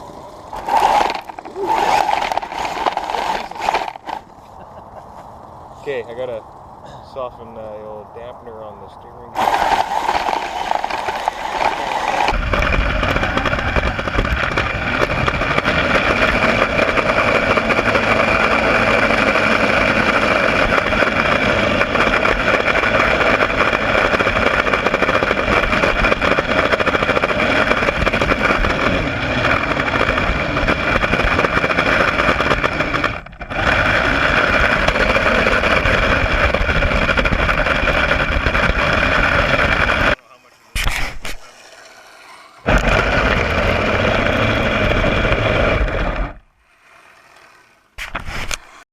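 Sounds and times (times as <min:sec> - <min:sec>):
electric motors whining: 0:00.0 - 0:06.8, 0:09.1 - 0:40.2, 0:41.1 - 0:48.8.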